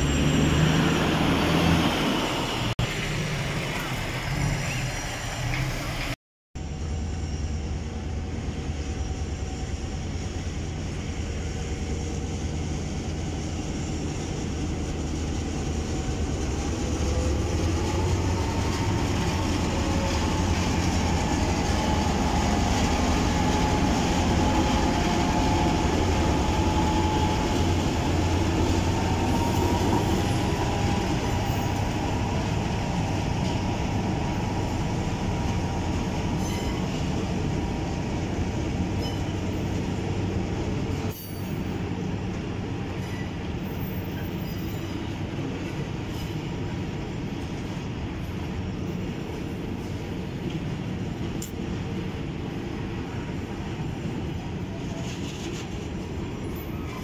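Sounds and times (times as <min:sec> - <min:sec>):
diesel locomotives rumbling: 0:00.0 - 0:57.0.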